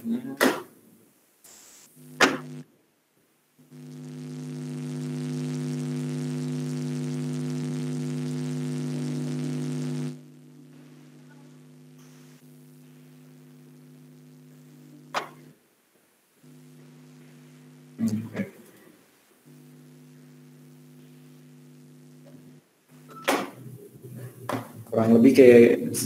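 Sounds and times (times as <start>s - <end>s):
electrical mains buzz: 1.5s - 2.8s, 3.6s - 26.0s.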